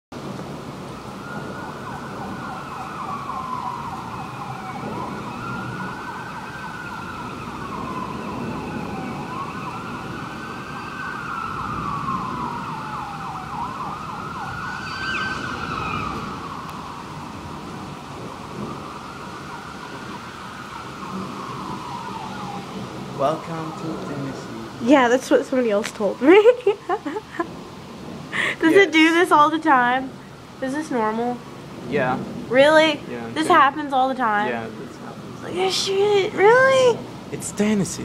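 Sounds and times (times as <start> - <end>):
emergency siren wailing: 0.2 - 38.0
low background rush: 0.2 - 38.0.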